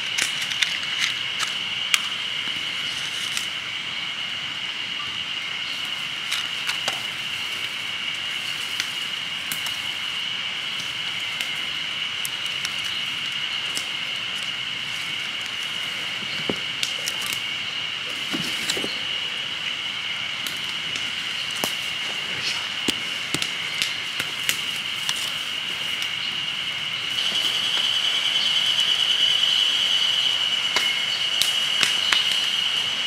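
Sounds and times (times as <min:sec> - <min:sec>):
campfire crackling and popping: 0:00.0 - 0:33.0
high-pitched insect chorus: 0:00.0 - 0:33.0.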